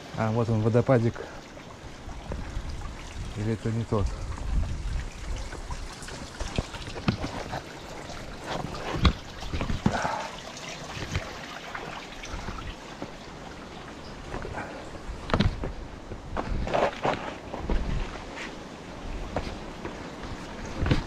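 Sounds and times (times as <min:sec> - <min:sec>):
waterfall trickling and splashing: 0:00.0 - 0:16.2, 0:17.6 - 0:21.0.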